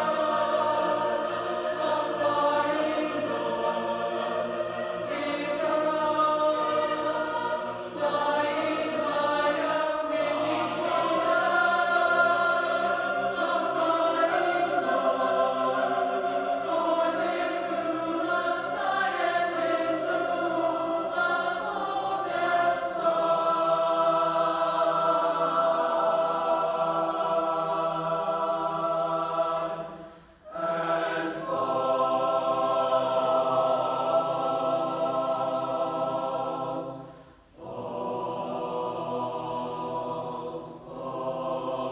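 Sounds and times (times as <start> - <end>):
mixed choir singing chords: 0.0 - 41.9.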